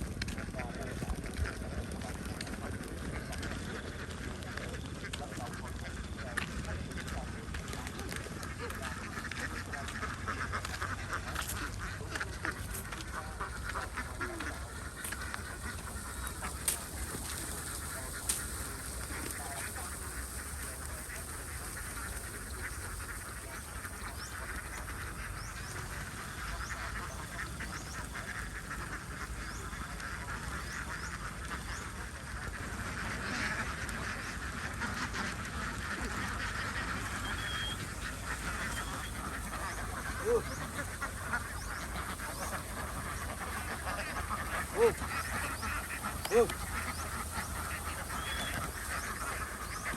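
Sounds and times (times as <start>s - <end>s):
ducks quacking: 0.0s - 49.9s.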